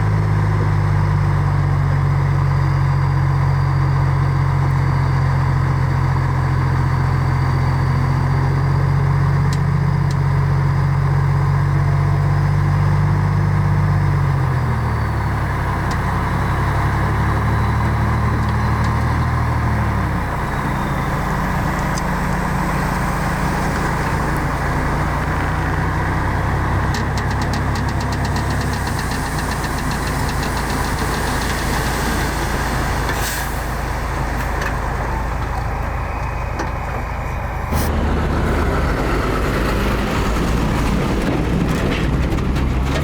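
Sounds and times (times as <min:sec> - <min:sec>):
heavy diesel machinery engines: 0:00.0 - 0:43.0.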